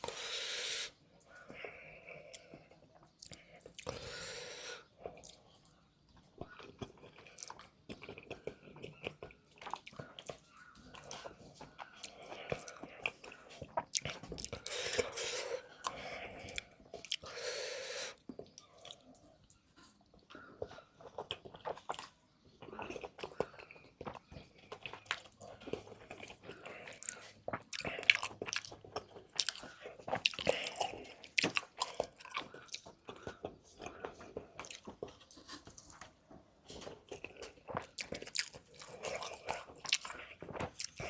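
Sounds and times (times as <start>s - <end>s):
close chewing and biting food: 0.0s - 41.0s.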